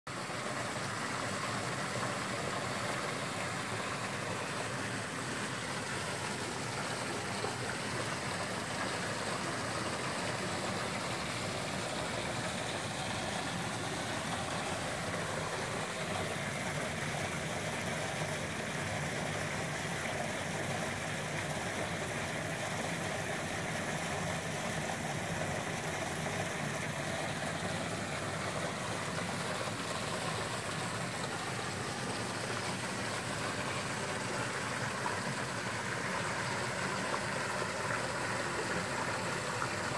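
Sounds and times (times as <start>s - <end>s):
water pouring into pool: 0.1s - 39.9s.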